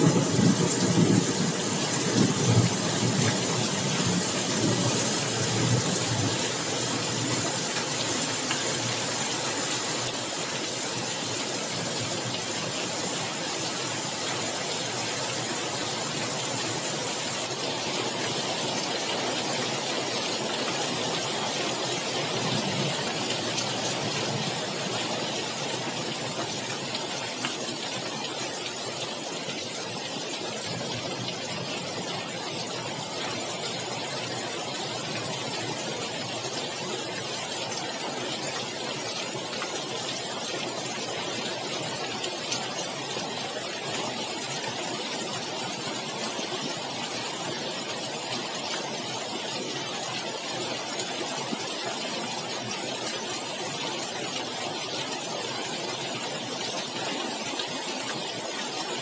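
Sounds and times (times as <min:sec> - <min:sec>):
heavy rain pouring: 0:00.0 - 0:59.0
wind: 0:00.0 - 0:59.0.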